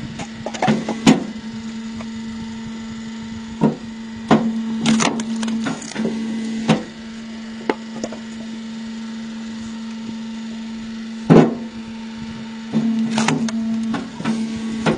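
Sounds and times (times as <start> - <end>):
log splitter humming: 0.0 - 14.9.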